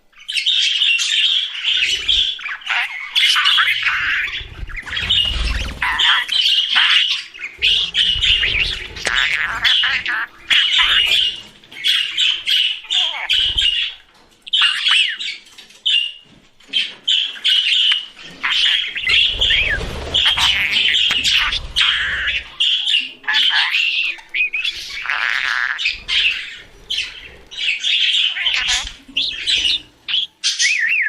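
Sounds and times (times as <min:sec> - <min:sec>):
budgerigars chirping and warbling: 0:00.1 - 0:31.0.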